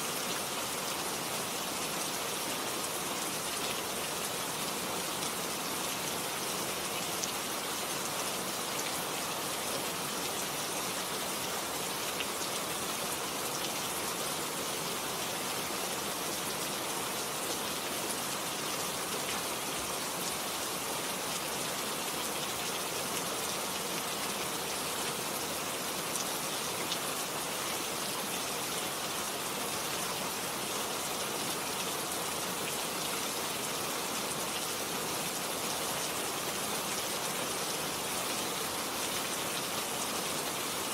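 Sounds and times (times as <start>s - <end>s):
rain on plants: 0.0s - 40.9s.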